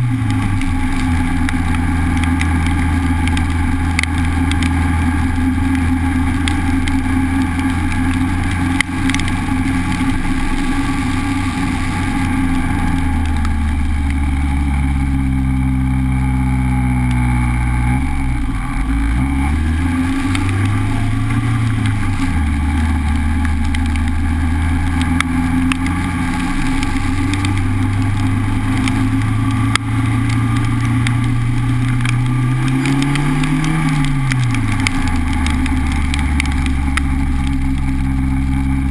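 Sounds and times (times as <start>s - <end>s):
car engine while driving: 0.0s - 38.9s.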